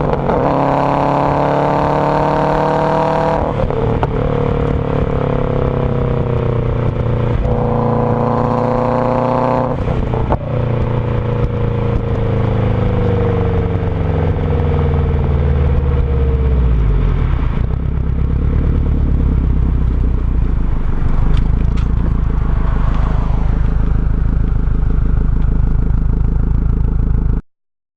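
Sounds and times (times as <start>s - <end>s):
car engine revving and idling: 0.0s - 27.4s
exhaust cracks: 0.0s - 27.4s.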